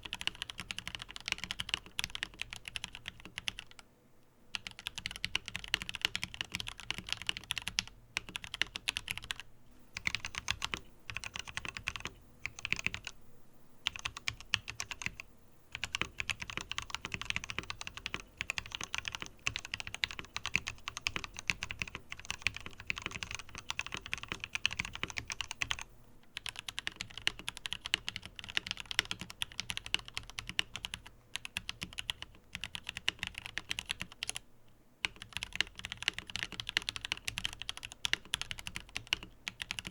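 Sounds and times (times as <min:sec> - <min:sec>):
mechanical keyboard typing: 0:00.0 - 0:03.8, 0:04.5 - 0:09.4, 0:10.0 - 0:13.2, 0:13.8 - 0:34.4, 0:35.0 - 0:39.9.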